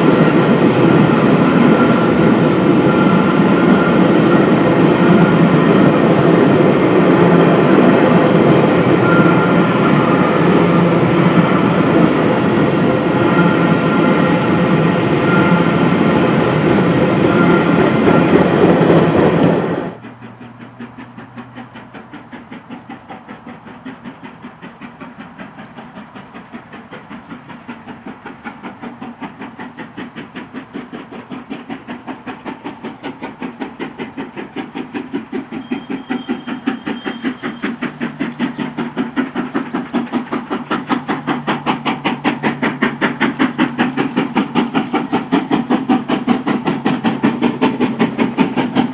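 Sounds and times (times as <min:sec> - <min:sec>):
loud passing train: 0:00.0 - 0:48.9
steam locomotive chuffing: 0:00.0 - 0:48.9.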